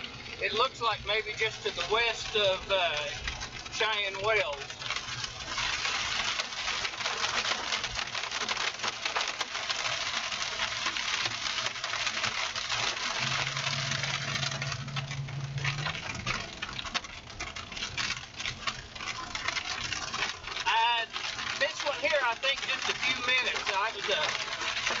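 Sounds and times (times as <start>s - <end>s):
rain and hail on vehicle roof: 0.0s - 25.0s.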